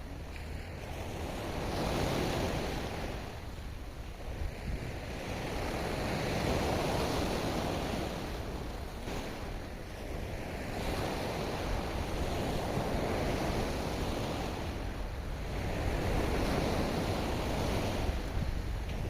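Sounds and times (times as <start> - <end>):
low wind rumble on microphone: 0.0 - 19.0.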